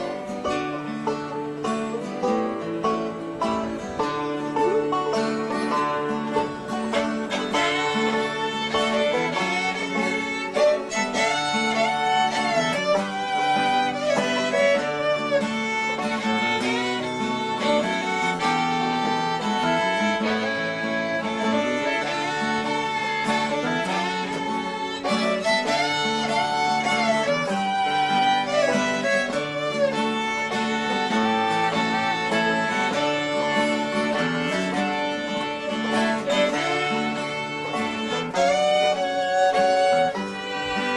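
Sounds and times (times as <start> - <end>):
fiddle melody: 0.0 - 40.9
guitar accompaniment: 0.0 - 40.9.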